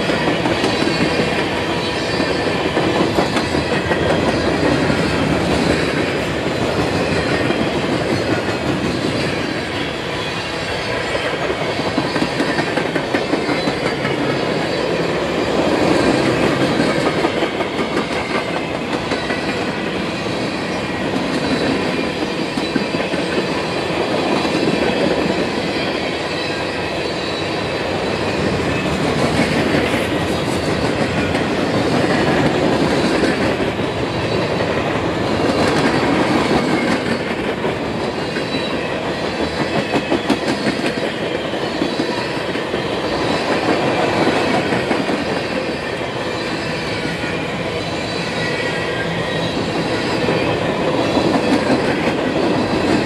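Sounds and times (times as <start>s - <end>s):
steel wheels rumbling on rails: 0.0s - 53.0s.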